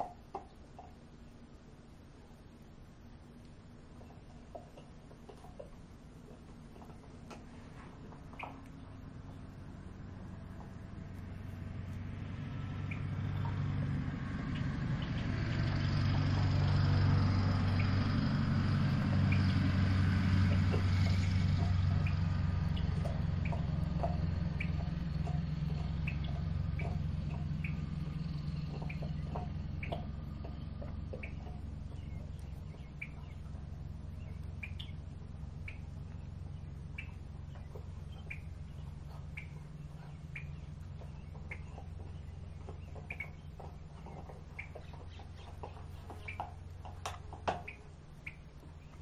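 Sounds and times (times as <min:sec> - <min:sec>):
distant engine rumble: 0:00.0 - 0:49.0.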